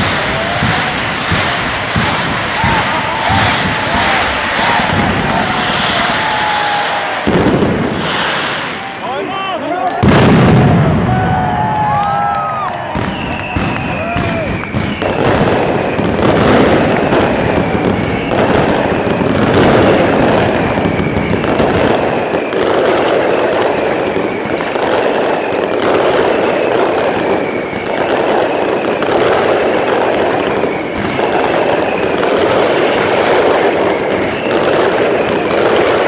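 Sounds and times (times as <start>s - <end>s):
falling firework whistles: 0.0s - 9.1s, 10.0s - 36.0s
crackling fireworks roar: 0.0s - 36.0s.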